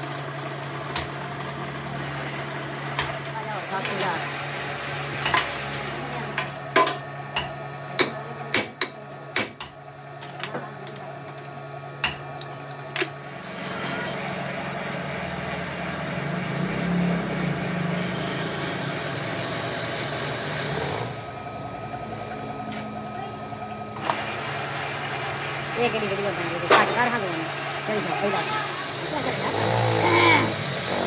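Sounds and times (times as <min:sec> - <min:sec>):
lathe motor running: 0:00.0 - 0:31.0.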